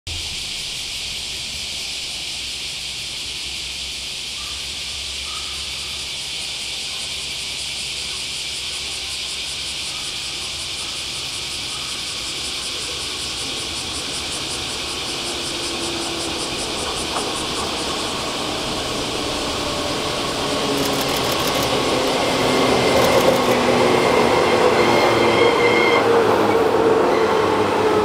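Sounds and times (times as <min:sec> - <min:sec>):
cicadas droning: 0:00.1 - 0:28.0.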